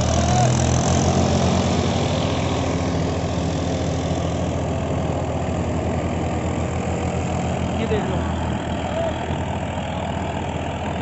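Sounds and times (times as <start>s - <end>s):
tractor diesel engine throbbing: 0.0s - 11.0s.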